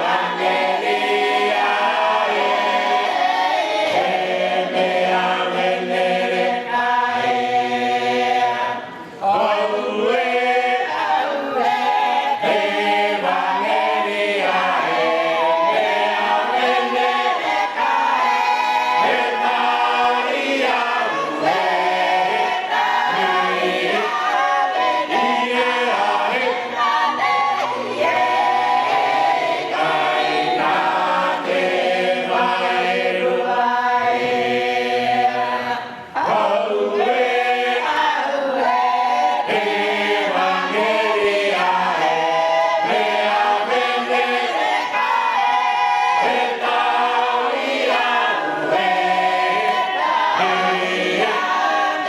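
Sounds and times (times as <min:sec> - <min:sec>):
church choir singing a hymn: 0:00.0 - 0:52.0.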